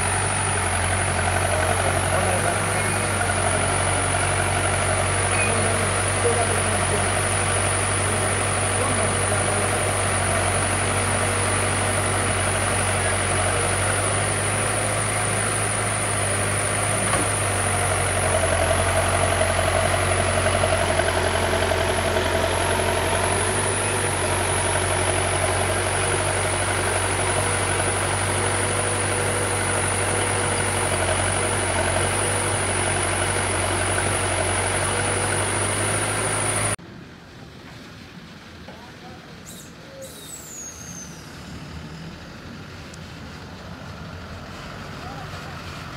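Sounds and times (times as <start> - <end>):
backhoe diesel engine running: 0.0 - 36.8.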